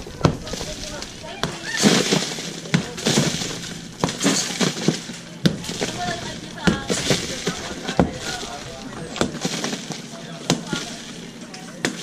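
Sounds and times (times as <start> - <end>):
rubble cracking and clattering: 0.0 - 12.0.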